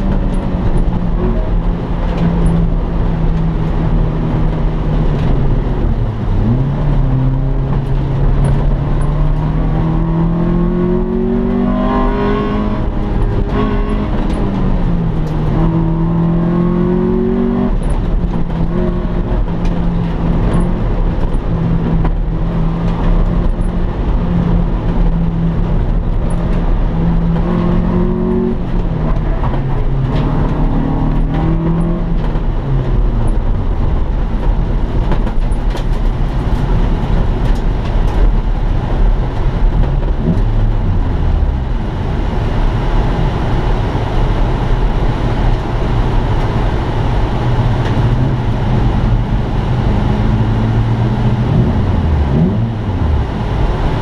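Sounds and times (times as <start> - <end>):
car engine revving: 0.0 - 54.0
road and wind noise: 0.0 - 54.0.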